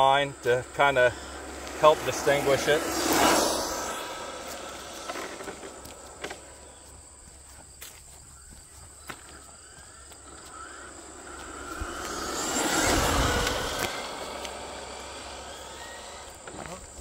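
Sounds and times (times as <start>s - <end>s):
rc truck electric motors: 0.0s - 7.1s, 9.6s - 17.0s
insects buzzing: 0.0s - 17.0s
tyres on asphalt: 0.0s - 17.0s.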